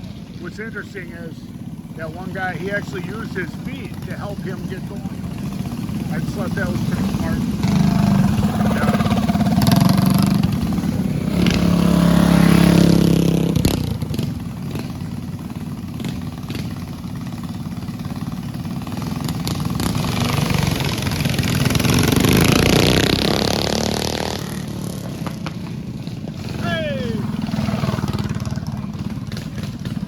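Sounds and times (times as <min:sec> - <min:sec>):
mini bike engines racing past: 0:00.0 - 0:30.0.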